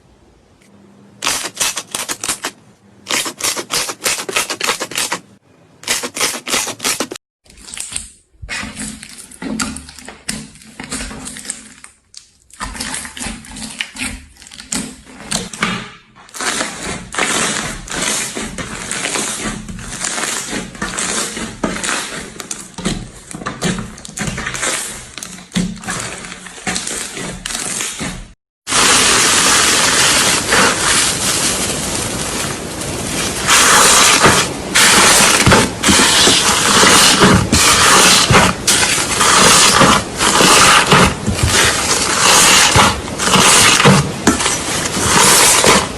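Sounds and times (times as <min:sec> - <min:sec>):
slime squelching by hand: 0:01.2 - 0:15.6, 0:16.3 - 0:45.9.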